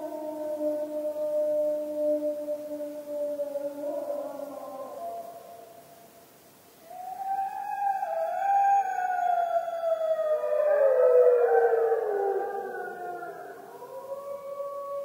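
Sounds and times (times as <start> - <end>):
wolves howling: 0.0 - 5.4, 6.9 - 15.0.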